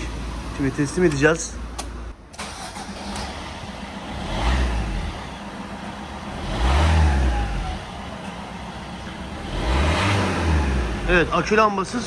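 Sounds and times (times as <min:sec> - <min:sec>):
diesel engine revving: 0:00.0 - 0:12.0.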